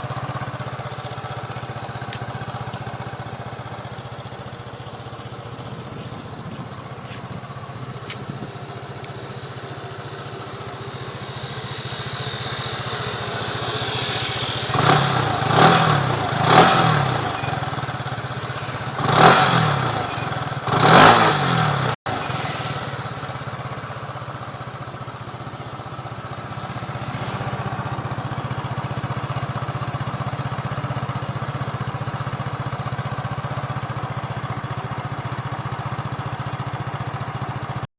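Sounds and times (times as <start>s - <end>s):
scooter engine idling and revving: 0.0s - 37.9s.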